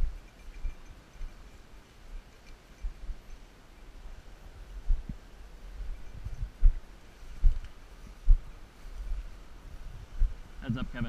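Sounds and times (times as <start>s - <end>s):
faint low rumble: 0.0s - 11.0s.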